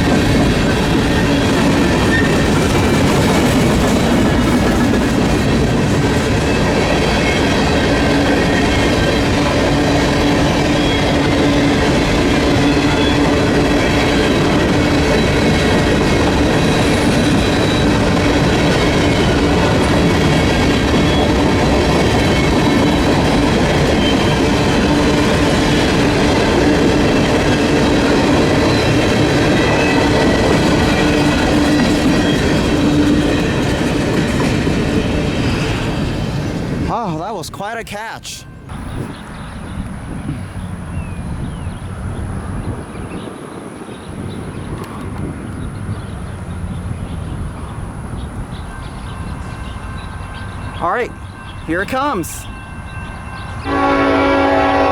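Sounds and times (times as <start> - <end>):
freight train cars rolling past: 0.0 - 54.9.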